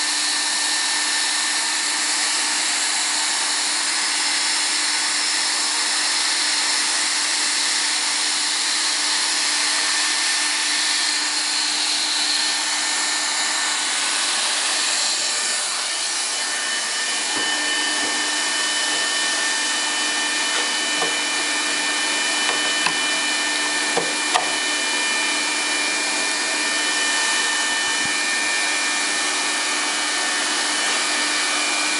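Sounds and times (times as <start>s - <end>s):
hot air blower hissing: 0.0s - 31.9s.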